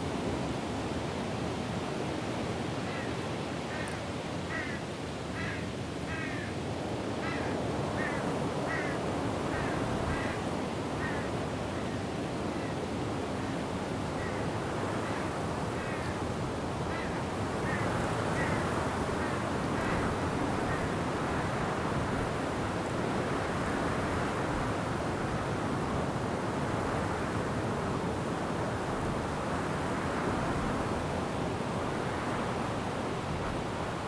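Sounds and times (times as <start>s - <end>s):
wind through forest trees: 0.0s - 34.0s.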